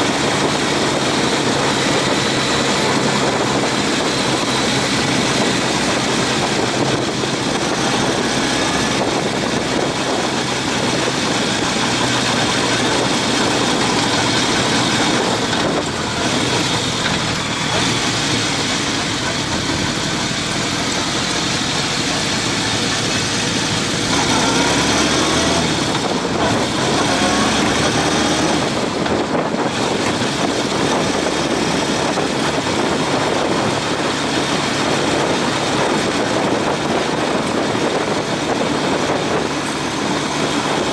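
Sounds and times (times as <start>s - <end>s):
loud rush of noise: 0.0s - 40.9s
motorcycle engine running: 0.0s - 40.9s.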